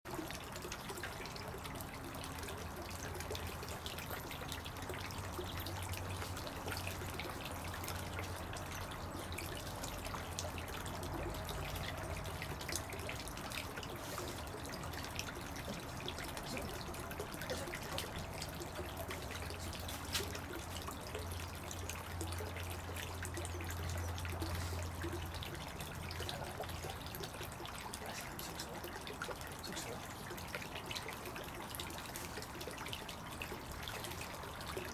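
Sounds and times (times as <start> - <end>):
small drips and ticks: 0.1 - 34.9
water trickling: 0.1 - 34.9.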